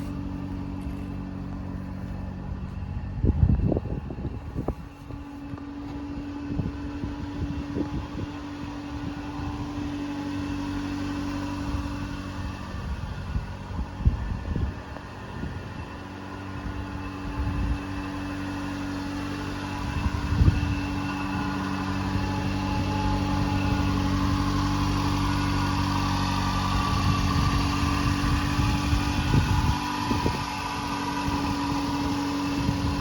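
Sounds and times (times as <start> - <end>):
small truck engine idling: 0.0 - 33.0.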